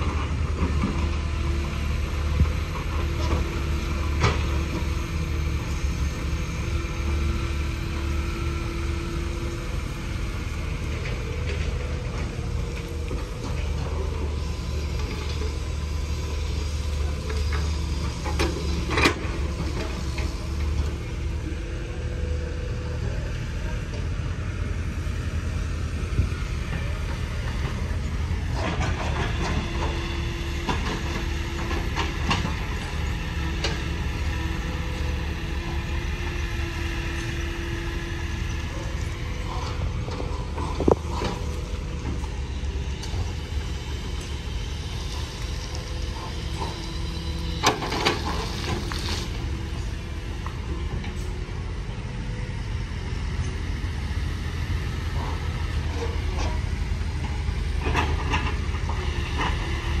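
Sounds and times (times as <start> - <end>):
diesel machinery rumbling: 0.0 - 60.0.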